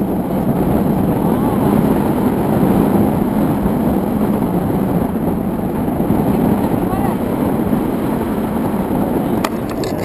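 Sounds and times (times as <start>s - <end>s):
wind noise on microphone: 0.0s - 10.0s.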